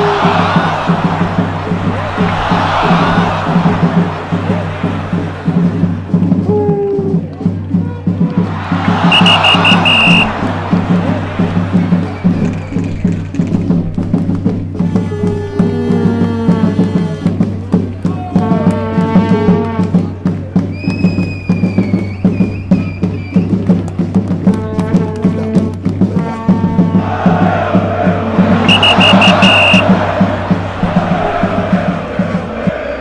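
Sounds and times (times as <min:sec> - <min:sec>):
background music with percussive beat: 0:00.0 - 0:33.0.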